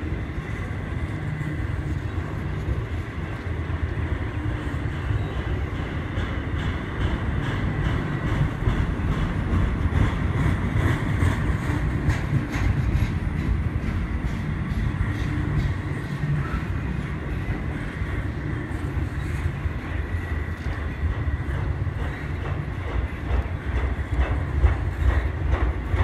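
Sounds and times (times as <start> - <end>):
freight train wheels rumbling on rails: 0.0 - 26.0
train wheels clicking and clacking: 0.0 - 26.0.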